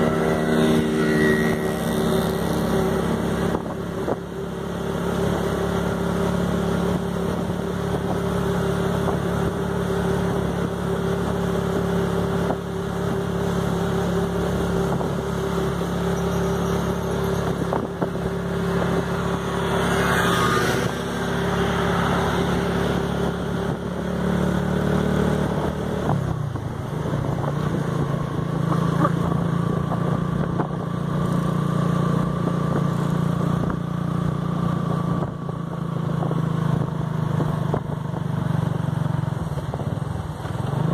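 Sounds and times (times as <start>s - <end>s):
motorcycle engine cruising: 0.0s - 40.9s
road noise: 0.0s - 40.9s.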